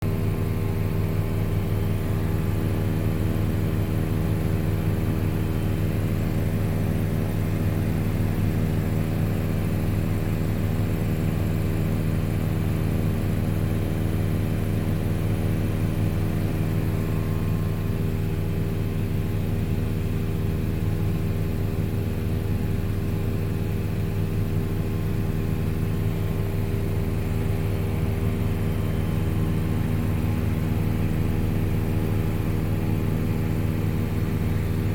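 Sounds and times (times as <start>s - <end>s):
helicopter engine and rotor hum: 0.0s - 34.9s.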